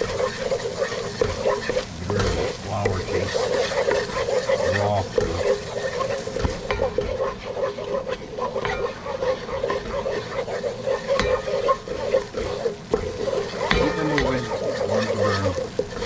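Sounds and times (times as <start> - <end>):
sizzling: 0.0 - 16.0
spoon scraping pan bottom: 0.0 - 16.0
steady hum: 0.0 - 16.0.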